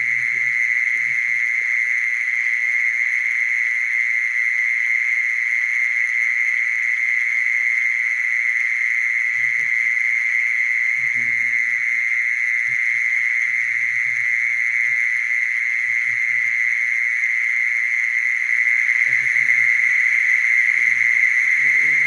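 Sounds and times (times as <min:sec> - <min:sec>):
mole cricket high-pitched trill: 0:00.0 - 0:22.0.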